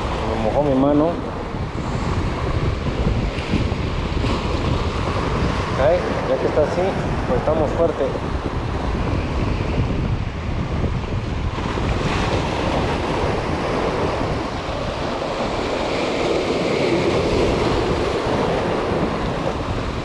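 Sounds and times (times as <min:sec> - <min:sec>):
waves breaking over rocks: 0:00.0 - 0:20.0
wind buffeting microphone: 0:00.0 - 0:20.0.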